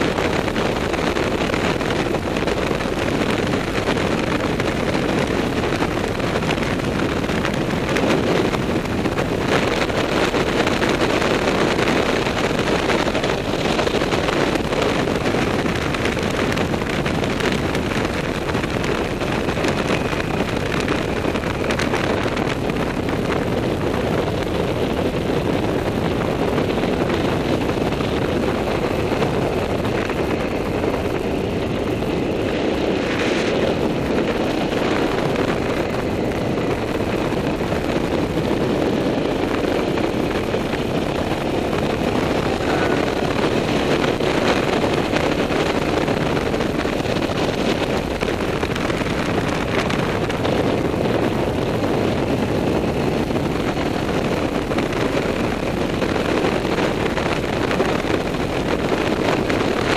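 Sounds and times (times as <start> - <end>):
road noise: 0.0 - 59.9
vehicle engine: 0.0 - 59.9
wind rush on microphone: 0.0 - 59.9.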